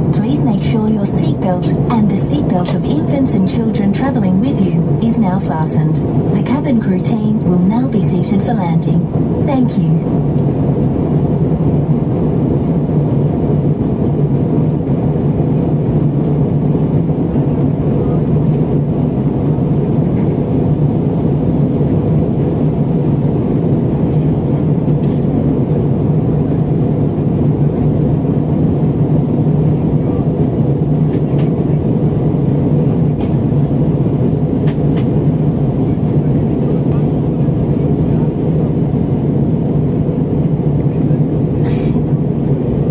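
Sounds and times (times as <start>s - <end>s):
airliner cabin engine noise: 0.0s - 42.9s
constant low hum: 0.0s - 42.9s.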